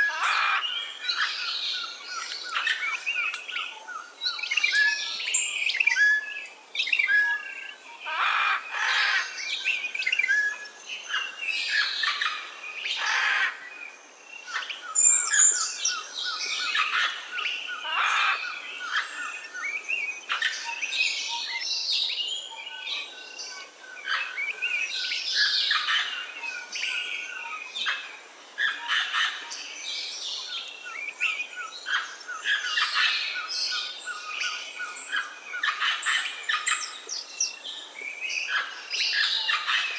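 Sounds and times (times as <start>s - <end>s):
wild birds chirping and singing: 0.0s - 39.9s.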